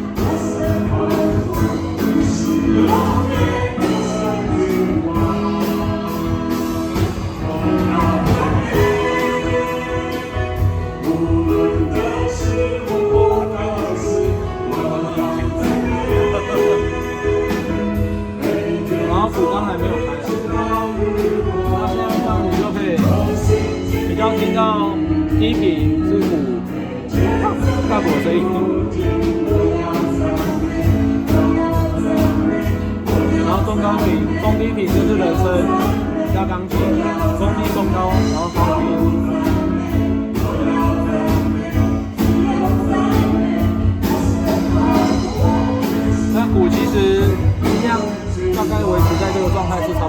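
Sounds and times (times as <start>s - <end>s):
worship band playing: 0.0s - 50.0s.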